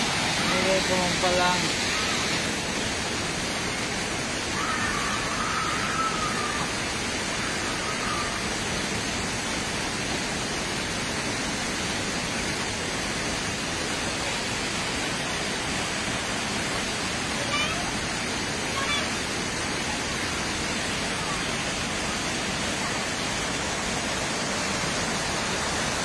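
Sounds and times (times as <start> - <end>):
waterfall splashing onto rocks: 0.0 - 26.0.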